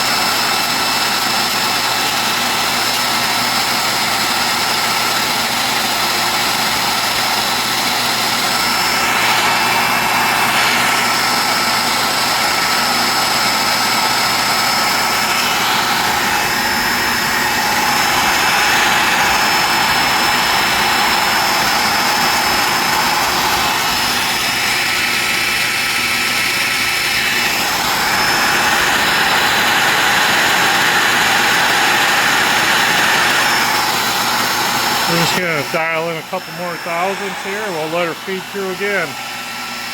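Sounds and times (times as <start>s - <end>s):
grinder high whine: 0.0s - 39.9s.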